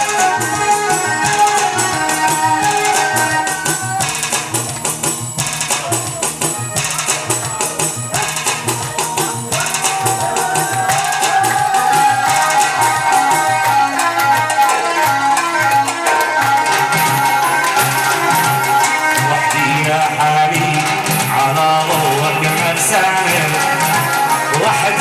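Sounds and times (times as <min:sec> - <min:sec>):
hand drums: 0:00.0 - 0:25.0
sustained melody line: 0:00.0 - 0:25.0.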